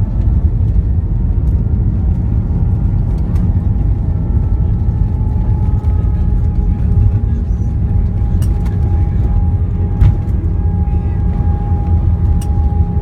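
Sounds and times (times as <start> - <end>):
aircraft cabin rumble: 0.0 - 13.0
jet engine whine: 0.0 - 13.0.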